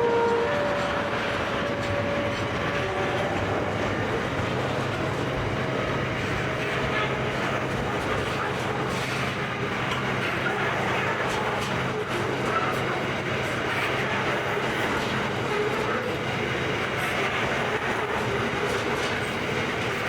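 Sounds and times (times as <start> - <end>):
train wheels clacking on rails: 0.0 - 20.0.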